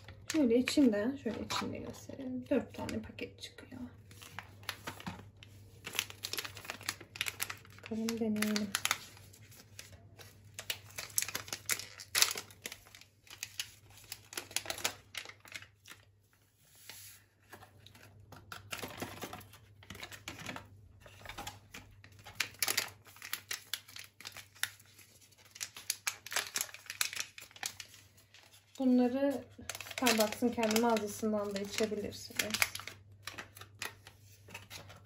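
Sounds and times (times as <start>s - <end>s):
sachets and box crinkling: 4.0s - 16.2s, 16.8s - 35.0s.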